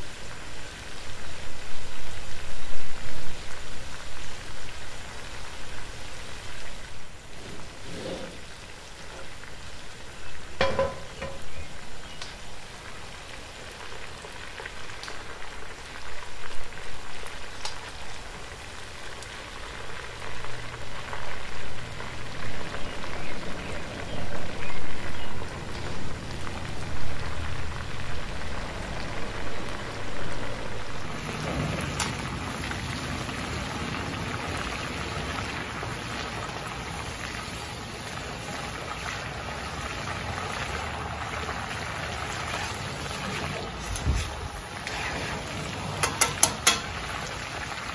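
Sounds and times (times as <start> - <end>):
chicken frying in oil: 0.0 - 47.9.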